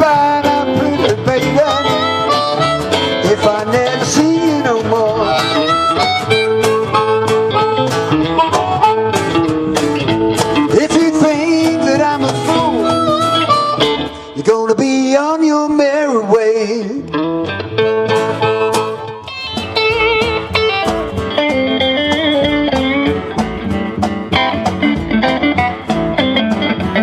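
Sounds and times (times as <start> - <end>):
harmonica bending notes: 0.0 - 14.6, 17.0 - 27.0
blues band playing: 0.0 - 27.0.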